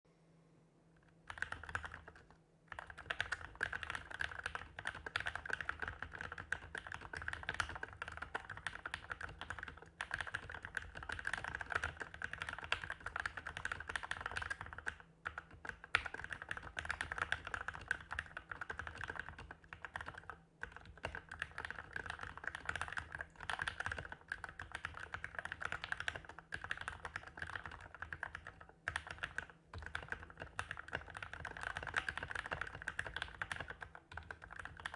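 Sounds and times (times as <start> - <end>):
mechanical keyboard typing: 1.0 - 34.9.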